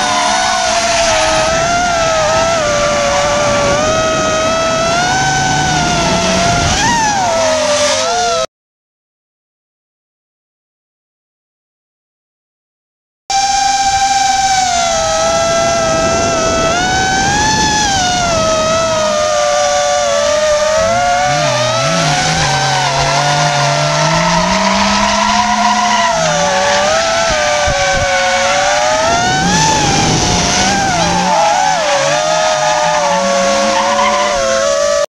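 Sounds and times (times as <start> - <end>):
car engine revving: 0.0 - 8.5, 13.3 - 35.0
drone motors whining: 0.0 - 8.5, 13.3 - 35.0
tires squealing: 0.0 - 8.5, 13.3 - 35.0.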